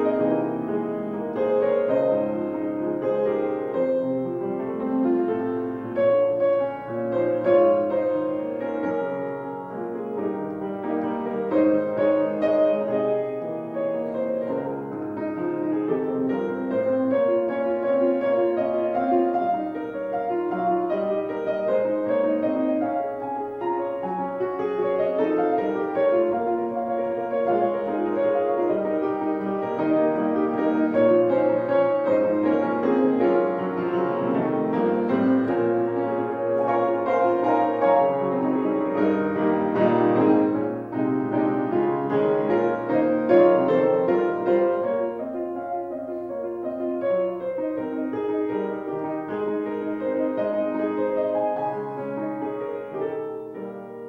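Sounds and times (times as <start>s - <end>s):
instrumental piano music: 0.0s - 54.0s.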